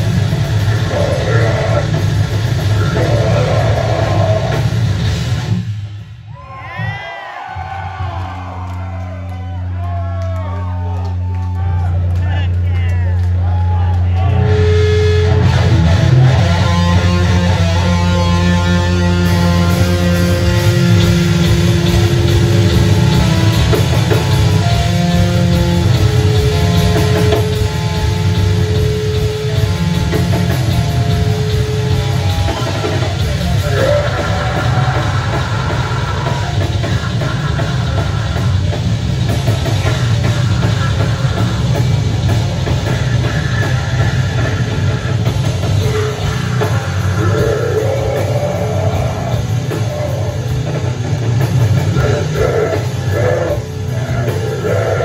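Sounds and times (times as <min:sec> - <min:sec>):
electric guitar: 0:00.0 - 0:06.0, 0:07.4 - 0:55.0
bass guitar: 0:00.0 - 0:55.0
drum kit: 0:00.0 - 0:55.0.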